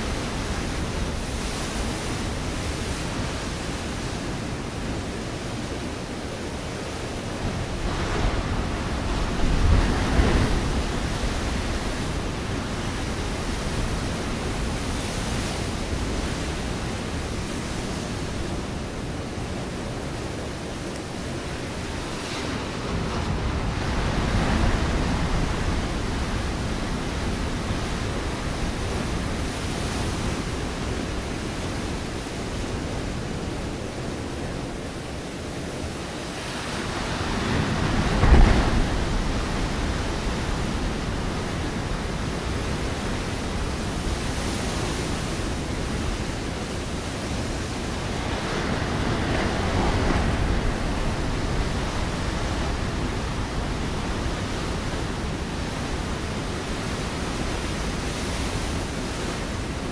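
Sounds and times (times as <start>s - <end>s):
ocean waves crashing on rocks: 0.0s - 59.9s
rushing surf: 0.0s - 59.9s.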